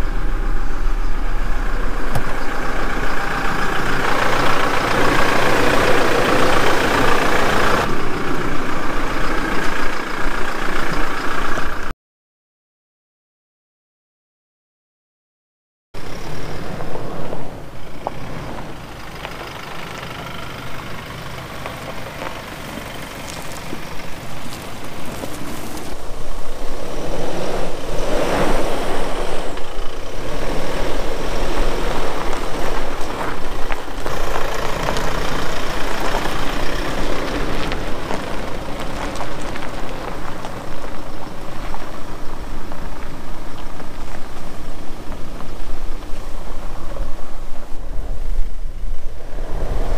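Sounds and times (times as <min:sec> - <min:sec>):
diesel engine running: 0:00.0 - 0:11.9, 0:16.0 - 0:48.0.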